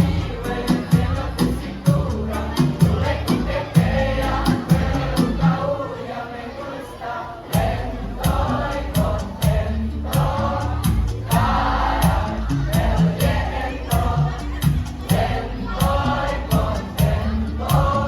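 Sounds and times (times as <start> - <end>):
percussive beat: 0.0 - 5.5, 7.6 - 18.0
bass line: 0.0 - 5.7, 7.6 - 18.0
choir singing: 0.0 - 18.0.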